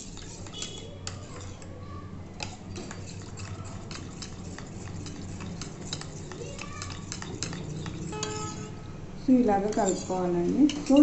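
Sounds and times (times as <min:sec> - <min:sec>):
spoon clinking and scraping bowl: 0:00.0 - 0:01.7, 0:02.4 - 0:08.8, 0:09.4 - 0:11.0.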